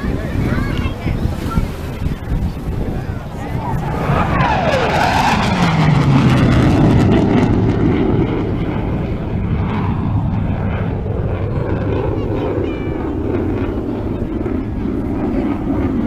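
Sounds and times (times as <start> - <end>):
military aircraft flying past: 0.0 - 16.0.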